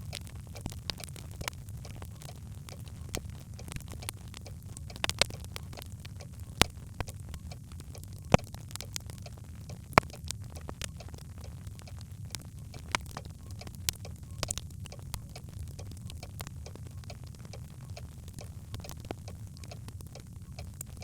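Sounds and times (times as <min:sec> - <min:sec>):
fire rumbling: 0:00.0 - 0:21.0
logs crackling and popping: 0:00.0 - 0:21.0.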